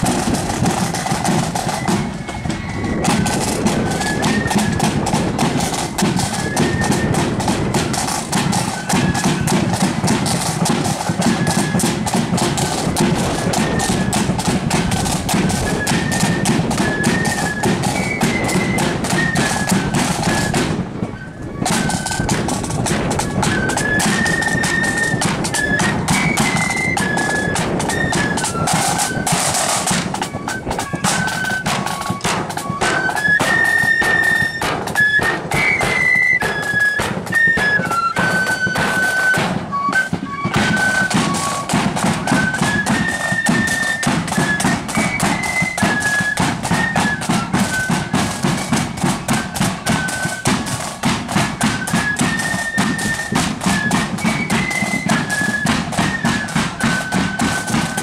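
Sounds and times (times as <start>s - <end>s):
flutes playing in unison: 0.0s - 58.0s
side drums: 0.0s - 58.0s.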